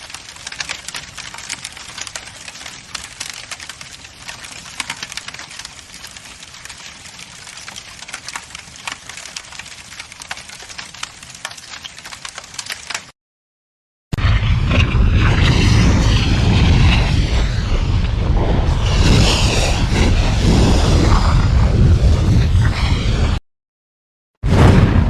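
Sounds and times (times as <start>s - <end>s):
fire crackling: 0.0s - 13.2s, 14.2s - 23.4s.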